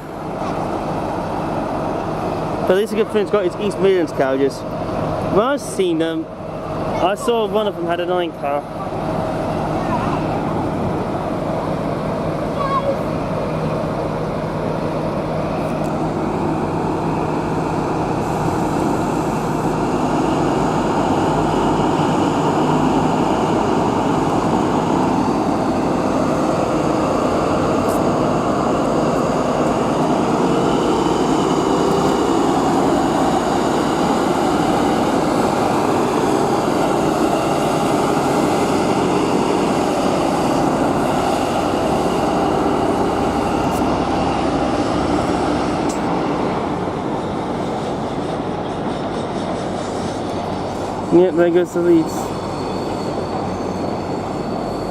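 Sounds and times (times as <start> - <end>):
train engine rumbling: 0.0 - 54.9.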